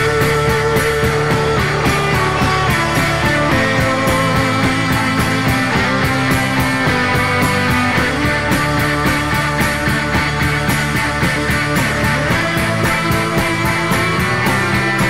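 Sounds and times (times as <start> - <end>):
rock music with fast drums: 0.0 - 15.0.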